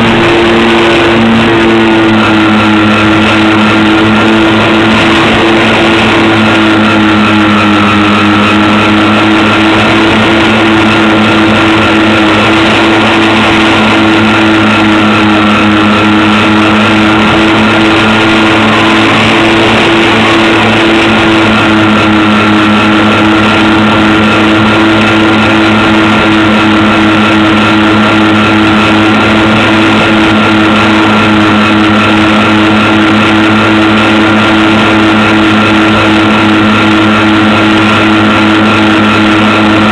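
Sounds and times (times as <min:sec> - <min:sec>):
model plane motors whining: 0:00.0 - 0:39.9
propeller rushing hiss: 0:00.0 - 0:39.9.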